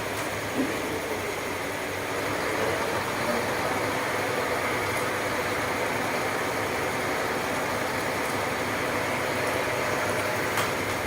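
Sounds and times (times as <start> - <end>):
machine engine running: 0.4 - 11.0.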